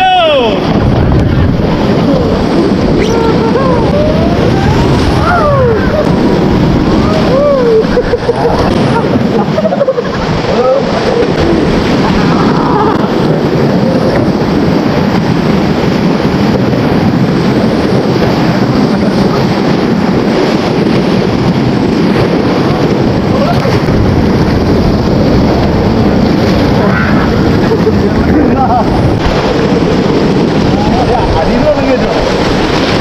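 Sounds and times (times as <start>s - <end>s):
whitewater rapids rushing: 0.0s - 33.0s.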